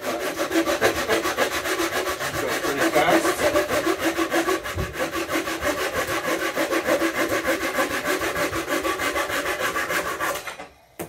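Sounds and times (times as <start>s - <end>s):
hand saw cutting plywood: 0.0s - 10.7s.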